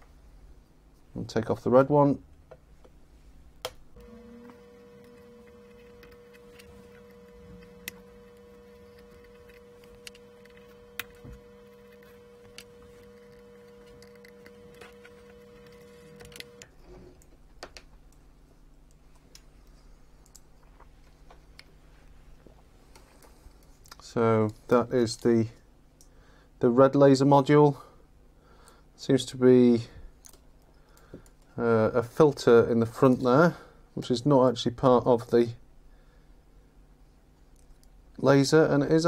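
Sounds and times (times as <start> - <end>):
electrical hum with whine: 0.0 - 39.0.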